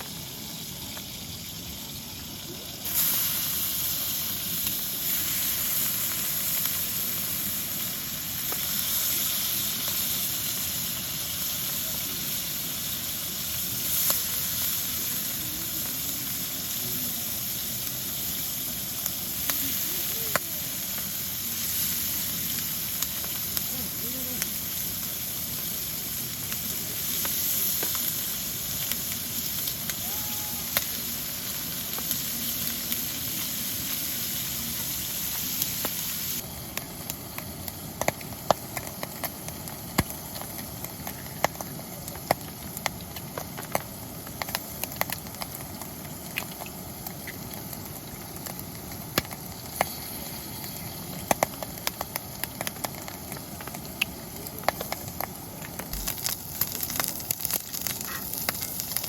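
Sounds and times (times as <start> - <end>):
rain hissing: 0.0 - 59.0.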